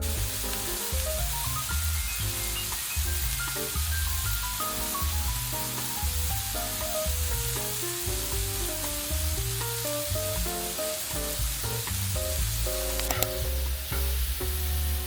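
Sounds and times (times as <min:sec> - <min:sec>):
background music: 0:00.0 - 0:15.0
food sizzling and frying: 0:00.0 - 0:15.0.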